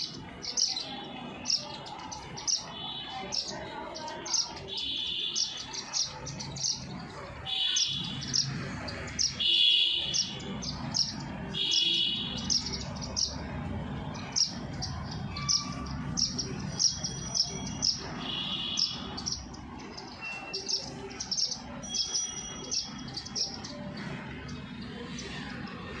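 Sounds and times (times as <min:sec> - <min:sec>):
birds chirping: 0:00.0 - 0:26.0
harsh bird calls: 0:00.0 - 0:26.0.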